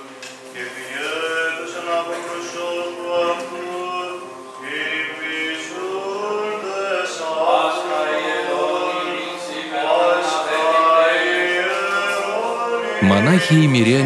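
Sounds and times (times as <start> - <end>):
men singing chant: 0.6 - 13.9.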